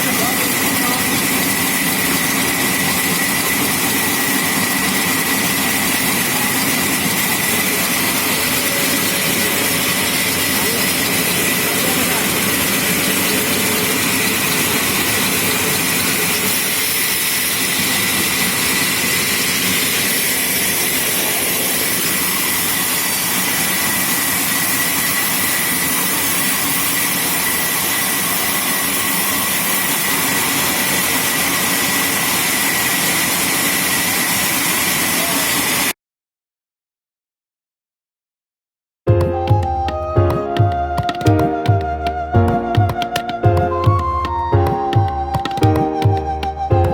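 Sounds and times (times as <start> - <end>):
sawmill machinery with high whine: 0.0 - 35.9, 39.2 - 46.9.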